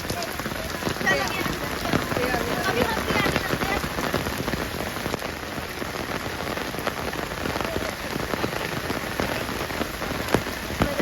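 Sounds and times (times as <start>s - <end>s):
raindrops ticking on surfaces: 0.0s - 11.0s
steady rain falling: 0.0s - 11.0s.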